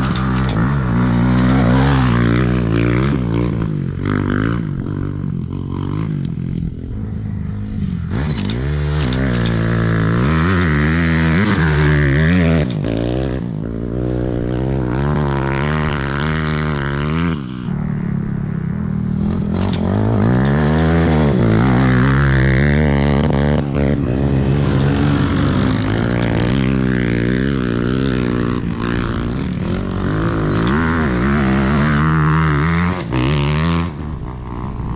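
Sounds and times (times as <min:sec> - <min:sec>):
engines revving: 0:00.0 - 0:34.9.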